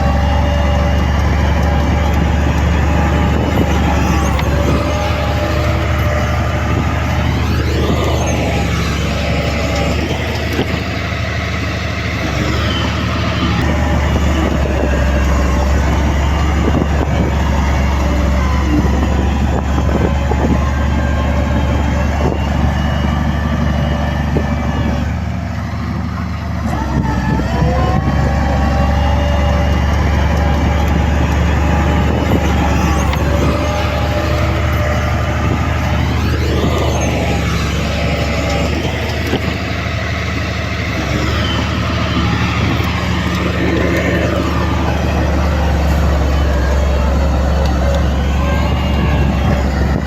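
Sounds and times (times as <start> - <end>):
diesel machinery engine droning: 0.0 - 50.0.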